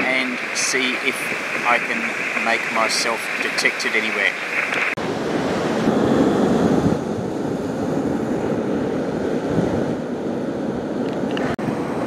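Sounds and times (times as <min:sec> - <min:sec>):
surf: 0:00.0 - 0:10.0
wind on microphone: 0:00.0 - 0:12.0.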